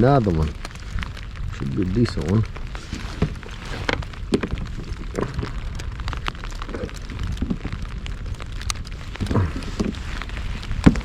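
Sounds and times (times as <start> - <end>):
raindrops ticking: 0.0 - 11.0
steady low rumble: 0.0 - 11.0.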